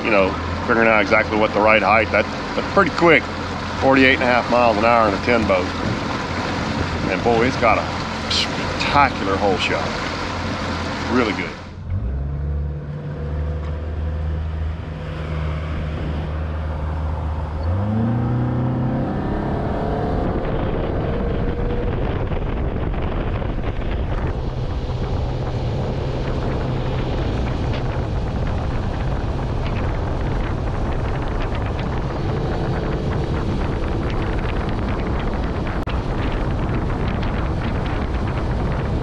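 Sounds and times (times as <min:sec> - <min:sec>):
outboard motor running: 0:00.0 - 0:39.0
water rushing: 0:00.0 - 0:39.0
wind rush: 0:00.0 - 0:39.0.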